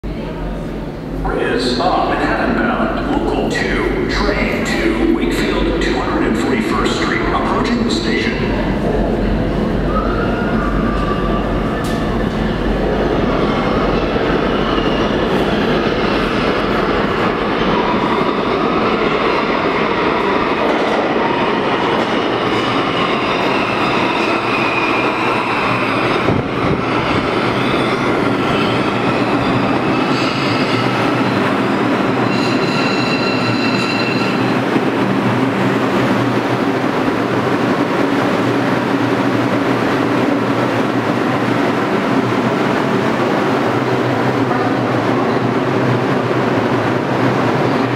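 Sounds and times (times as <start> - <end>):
subway train wheels rumbling on rail: 0.0 - 47.9.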